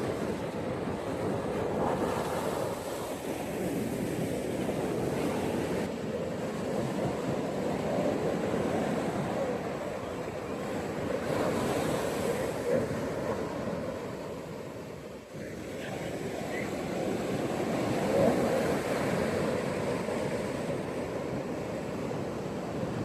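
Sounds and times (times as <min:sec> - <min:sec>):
ocean surf washing onto beach: 0:00.0 - 0:23.0.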